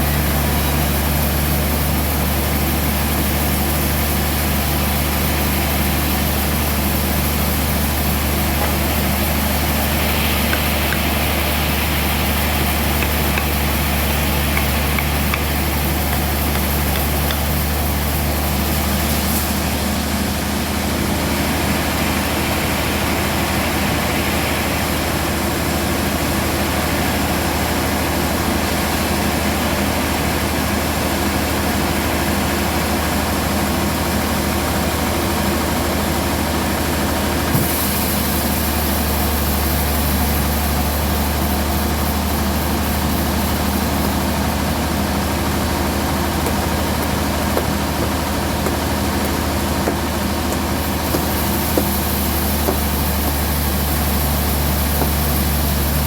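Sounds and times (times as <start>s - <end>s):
band sawmill droning: 0.0s - 31.3s, 33.9s - 56.0s.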